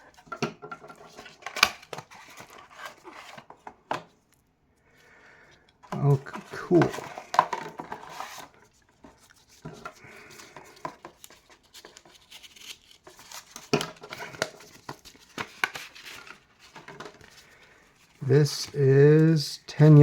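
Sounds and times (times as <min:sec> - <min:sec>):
packaging rustling and crinkling: 0:00.0 - 0:04.3, 0:05.9 - 0:20.0.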